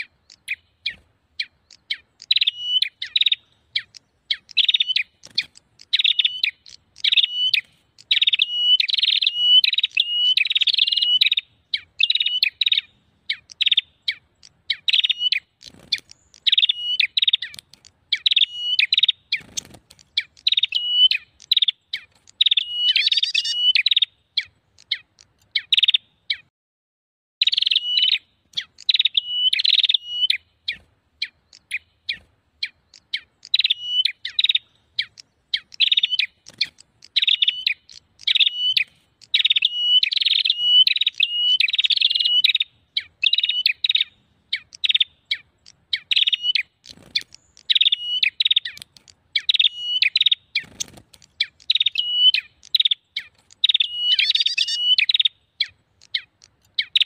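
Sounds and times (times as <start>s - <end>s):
warblers chirping: 0.0s - 26.5s, 27.4s - 57.0s.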